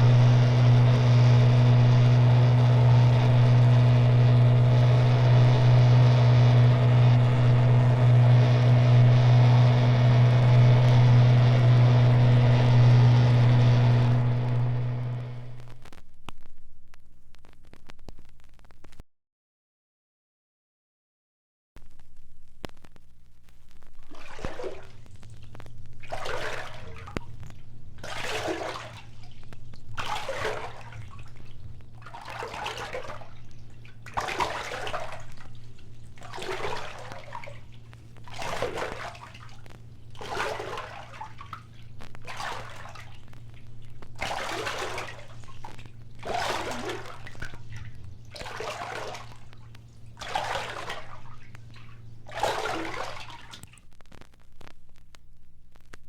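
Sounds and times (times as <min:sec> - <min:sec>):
rhythmic rushing water: 0:00.0 - 0:15.8, 0:24.0 - 0:53.8
low steady hum: 0:00.0 - 0:19.0, 0:21.8 - 0:56.0.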